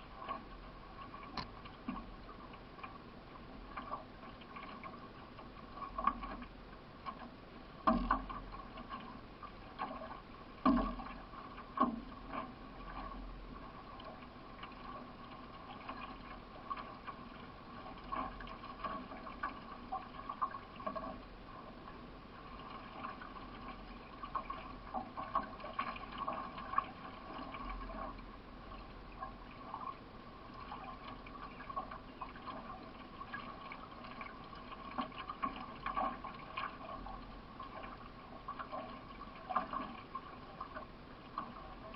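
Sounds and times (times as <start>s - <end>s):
paddle splashing in water: 0.0s - 41.9s
steady wash of water: 0.0s - 41.9s.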